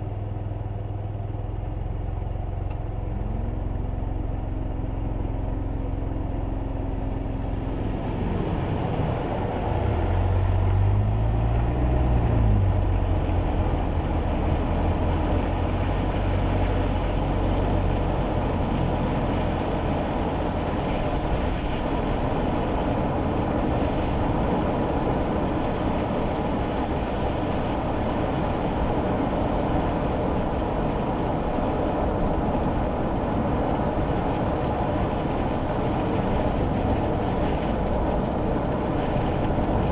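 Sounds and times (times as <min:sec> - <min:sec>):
tyre noise on wet road: 0:00.0 - 0:39.9
car engine accelerating: 0:01.5 - 0:39.9.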